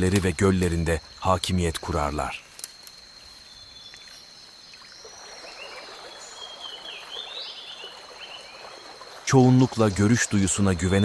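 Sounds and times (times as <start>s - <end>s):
faint chirping calls: 0.0s - 11.0s
high insect drone: 0.0s - 11.0s.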